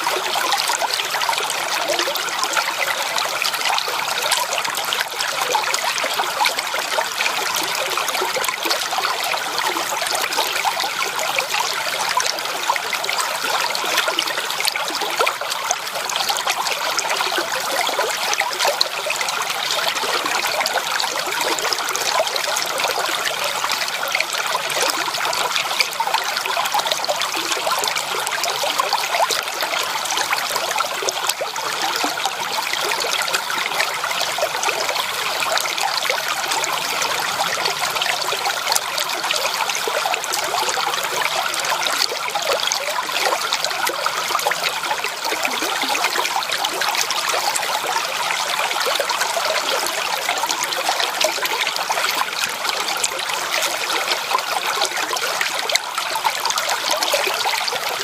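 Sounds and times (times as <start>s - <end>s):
creek water babbling over stones: 0.0s - 58.0s.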